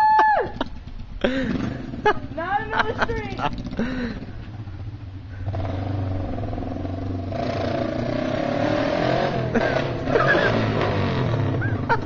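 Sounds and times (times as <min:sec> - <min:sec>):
twin-cylinder motorcycle engine running: 0:00.2 - 0:12.0.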